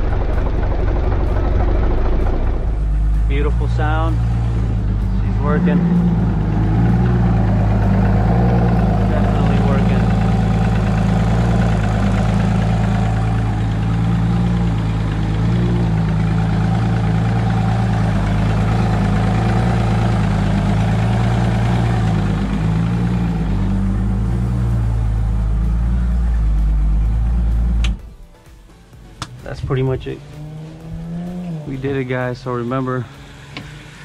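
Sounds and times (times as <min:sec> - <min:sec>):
outboard motor idling: 0:00.0 - 0:28.1.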